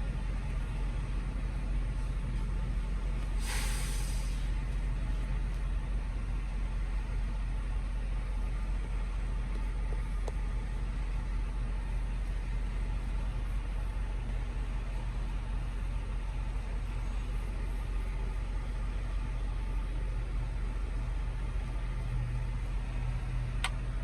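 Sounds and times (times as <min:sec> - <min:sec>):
truck engine idling: 0:00.0 - 0:24.0.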